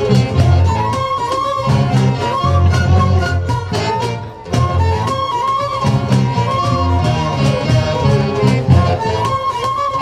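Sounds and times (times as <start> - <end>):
fiddles playing melody: 0.0 - 10.0
hand drums: 0.0 - 10.0.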